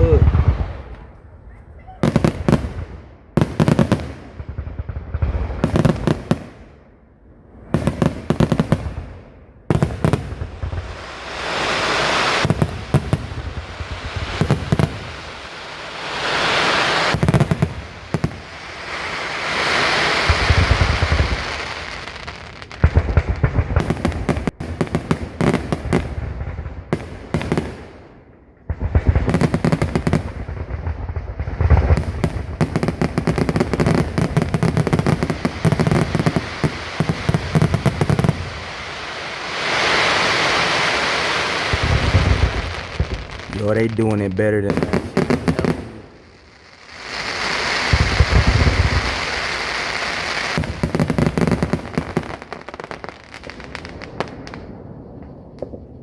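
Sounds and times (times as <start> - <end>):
fireworks booming: 0.0 - 56.0
fireworks crackling: 0.0 - 56.0.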